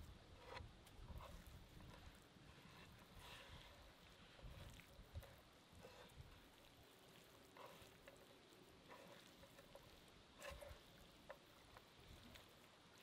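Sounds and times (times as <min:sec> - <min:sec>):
wet squishing of meat kneaded: 0:00.6 - 0:13.0.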